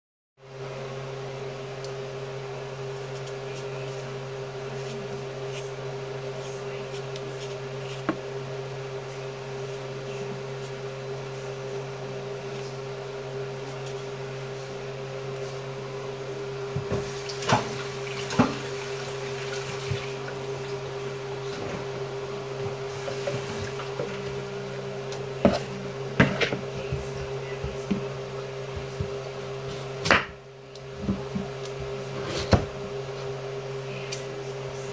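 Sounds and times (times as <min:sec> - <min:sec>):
kitchen appliance hum: 0:00.4 - 0:34.9.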